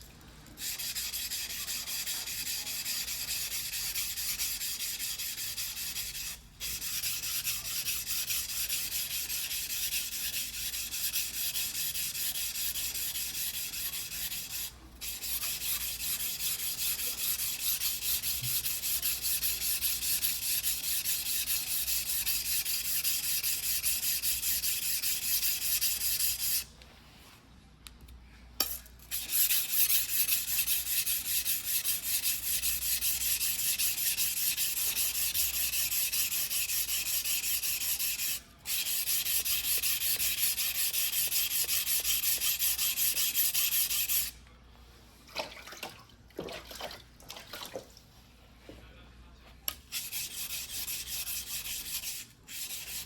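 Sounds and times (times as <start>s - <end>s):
blade scraping on whetstone: 0.6s - 26.6s, 28.6s - 44.3s, 49.9s - 53.0s.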